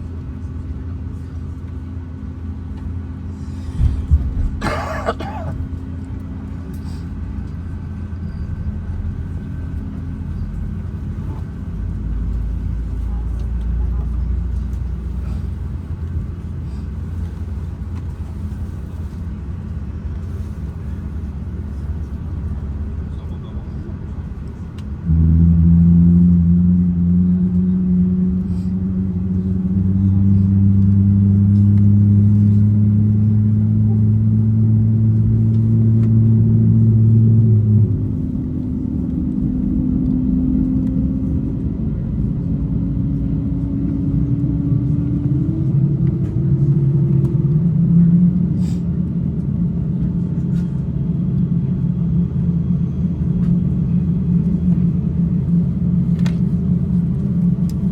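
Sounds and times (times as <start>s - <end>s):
aircraft cabin droning hum: 0.0s - 57.9s.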